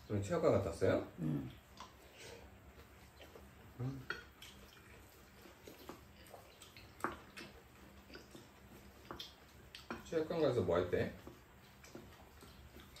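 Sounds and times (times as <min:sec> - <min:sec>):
wet chewing sounds: 0:01.2 - 0:13.0.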